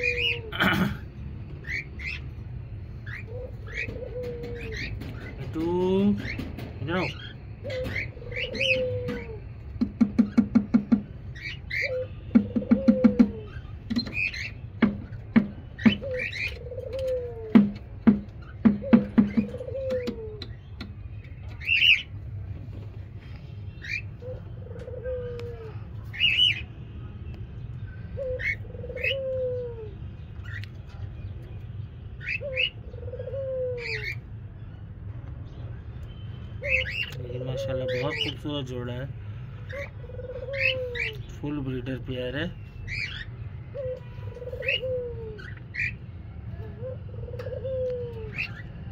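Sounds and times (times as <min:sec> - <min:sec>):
caged birds chirping: 0:00.0 - 0:48.9.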